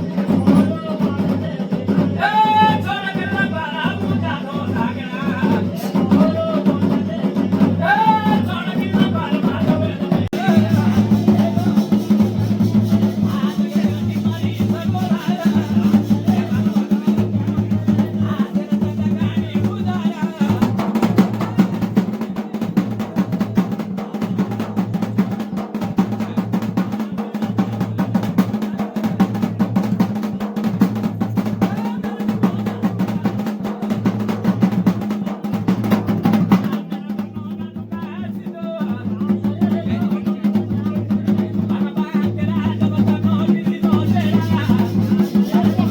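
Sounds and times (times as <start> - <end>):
fast drumming: 0.0 - 45.9.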